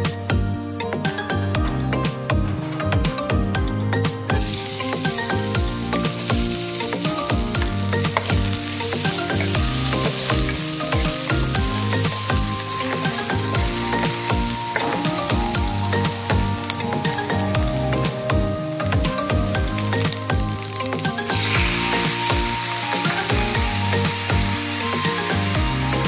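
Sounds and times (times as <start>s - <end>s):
background music: 0.0s - 26.0s
food sizzling in hot oil: 4.4s - 26.0s.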